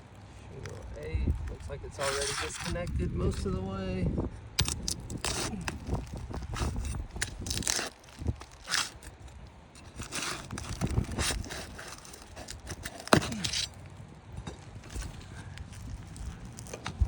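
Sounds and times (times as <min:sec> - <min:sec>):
roof shingles scraping and crackling: 0:00.0 - 0:03.6, 0:04.6 - 0:17.0.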